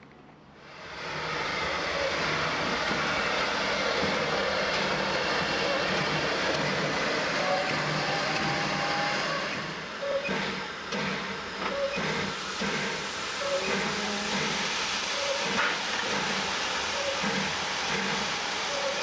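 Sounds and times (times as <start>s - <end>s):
steam locomotive hissing steam: 0.6s - 19.0s
steam blowing from drain cocks: 0.7s - 19.0s.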